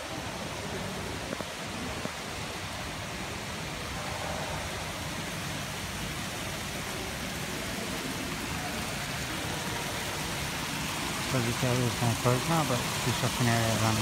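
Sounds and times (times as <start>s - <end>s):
fountain splashing: 0.0s - 14.0s.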